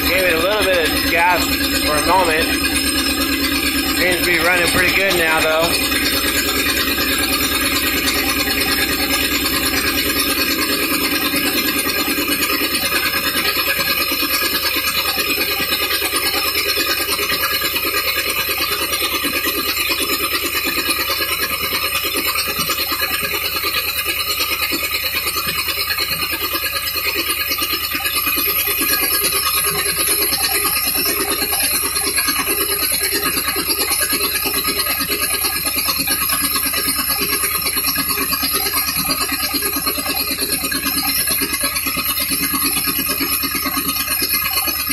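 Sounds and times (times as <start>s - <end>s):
engine idling with rasping pulse: 0.0s - 44.9s.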